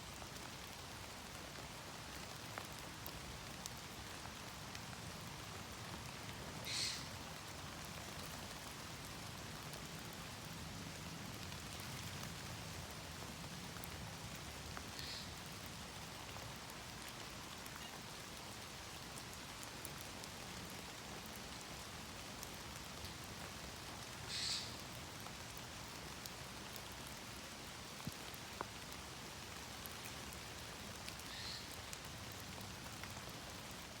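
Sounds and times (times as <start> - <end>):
rain pattering into puddles: 0.0 - 34.0
rain drumming on canopy: 0.1 - 34.0
water dripping off trees: 0.2 - 34.0.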